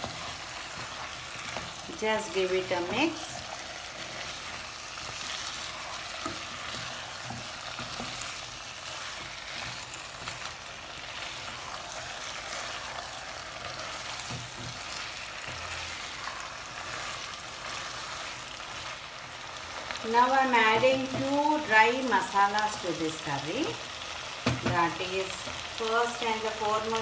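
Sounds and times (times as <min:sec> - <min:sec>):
food sizzling while frying: 0:00.0 - 0:27.0.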